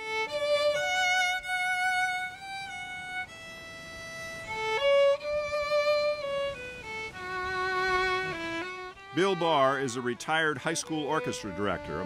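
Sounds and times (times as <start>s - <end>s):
solo violin melody: 0.0s - 12.0s.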